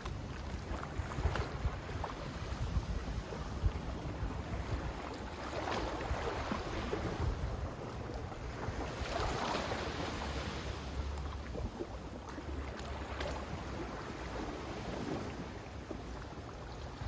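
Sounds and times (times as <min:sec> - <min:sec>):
sea waves washing in: 0:00.0 - 0:17.0
wind rumble on microphone: 0:00.0 - 0:17.0.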